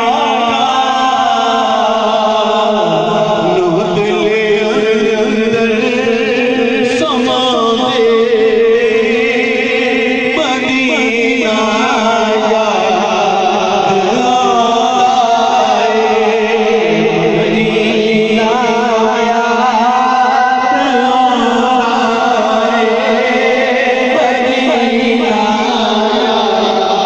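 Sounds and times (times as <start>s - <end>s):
men chanting over loudspeaker: 0.0s - 27.0s.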